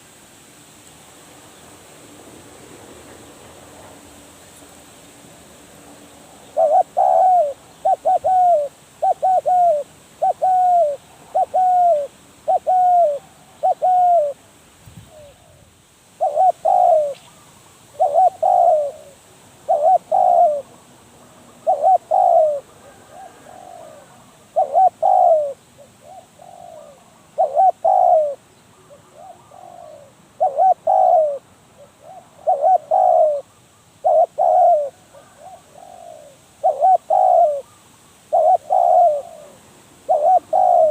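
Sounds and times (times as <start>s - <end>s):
dove cooing: 6.4s - 14.5s, 15.1s - 20.8s, 21.4s - 40.9s.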